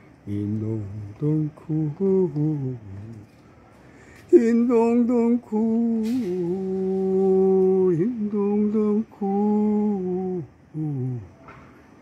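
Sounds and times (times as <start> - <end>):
person singing wordless melody: 0.0 - 3.4, 4.1 - 11.5.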